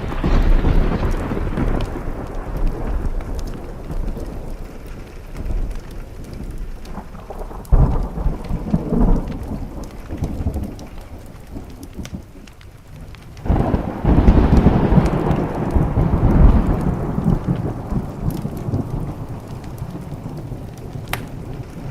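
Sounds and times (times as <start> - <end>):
thunder rolling: 0.0 - 12.4, 13.0 - 21.9
rain on a window pane: 0.0 - 21.9.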